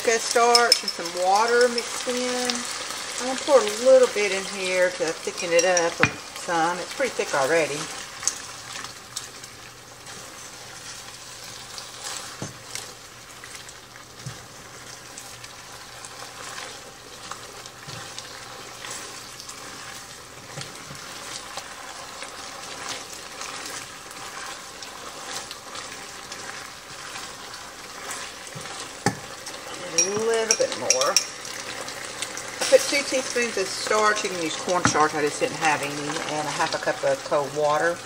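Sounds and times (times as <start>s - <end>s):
chicken sizzling in a skillet: 0.0s - 38.0s.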